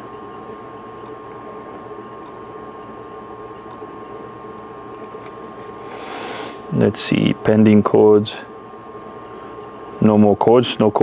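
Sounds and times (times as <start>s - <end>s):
mechanical hum with high tone: 0.0s - 11.0s.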